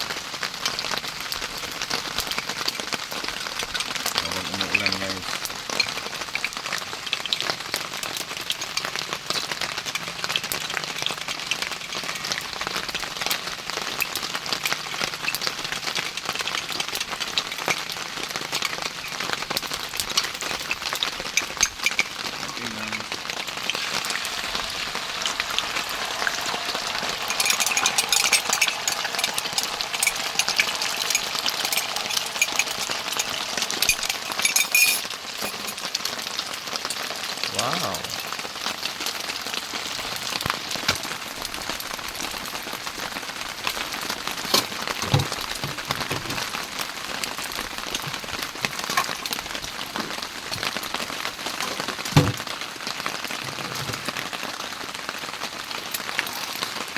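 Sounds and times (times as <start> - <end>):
heavy rain hissing: 0.0 - 56.9.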